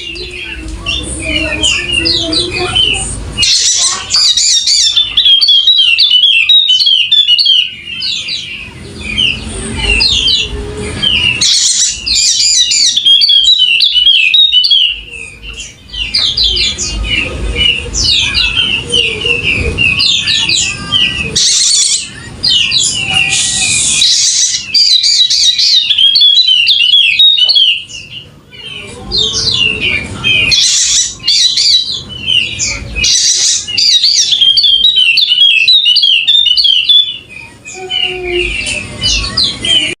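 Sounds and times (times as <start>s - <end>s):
bird chirping song: 0.0s - 40.0s.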